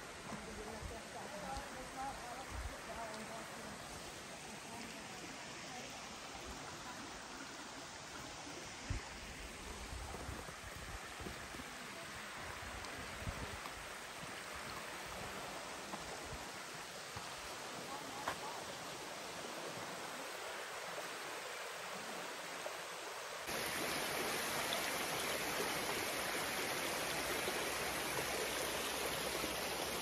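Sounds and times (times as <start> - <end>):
creek water flowing: 0.0 - 30.0.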